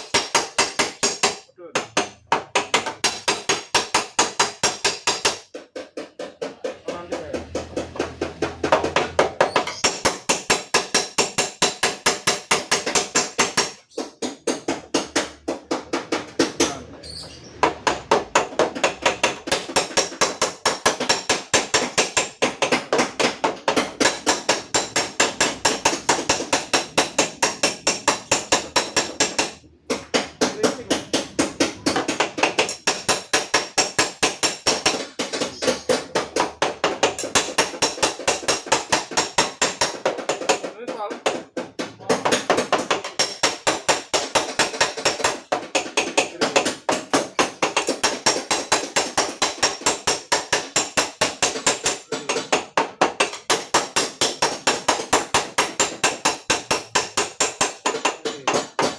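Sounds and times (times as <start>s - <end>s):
hammering on sheet metal: 0.0s - 16.9s, 17.6s - 58.9s.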